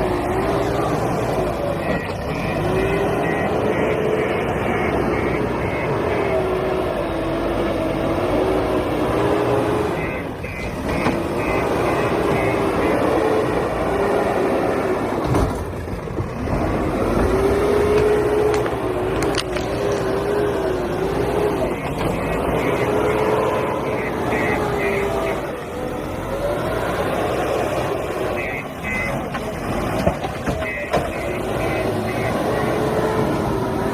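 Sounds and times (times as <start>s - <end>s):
diesel engine under digging load: 0.0s - 33.9s.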